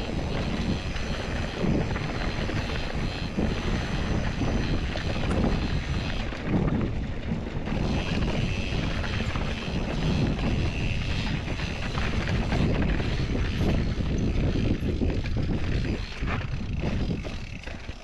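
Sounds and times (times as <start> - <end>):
bike tyres rolling over dirt: 0.0 - 18.0
wind buffeting microphone: 0.0 - 18.0.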